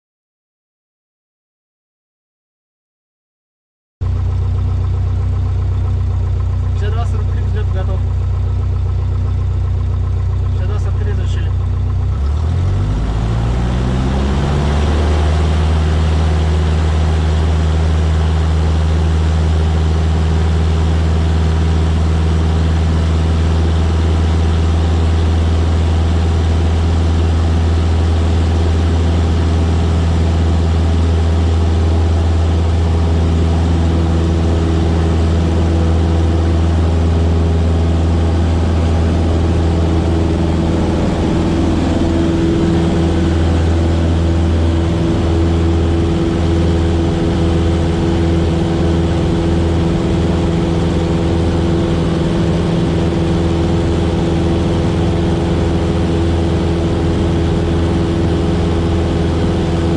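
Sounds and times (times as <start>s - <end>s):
small plane engine droning: 4.0s - 59.9s.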